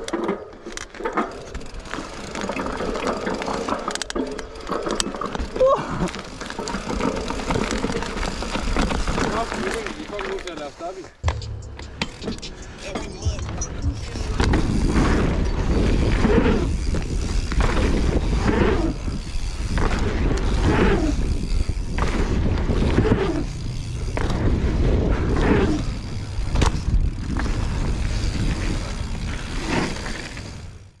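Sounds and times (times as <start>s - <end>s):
bike knocks and rattles: 0.0s - 31.0s
bike tyres rolling: 0.0s - 31.0s.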